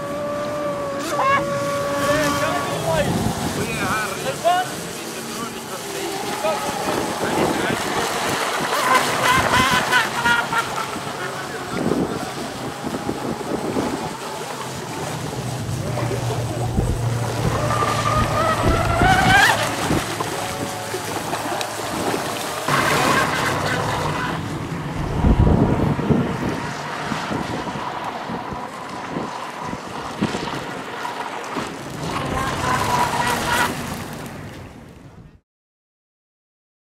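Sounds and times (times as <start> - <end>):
boat spray hiss: 0.0 - 31.2
electric motor whine: 0.0 - 34.1
wind noise on microphone: 0.0 - 35.4.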